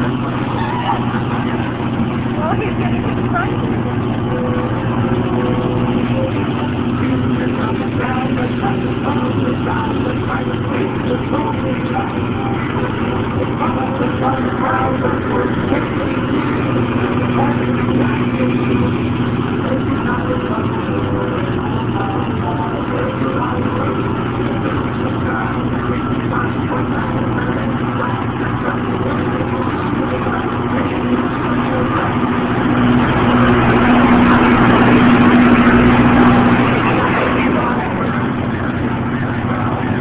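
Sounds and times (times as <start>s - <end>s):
train mechanical rumble and hum: 0.0s - 40.0s.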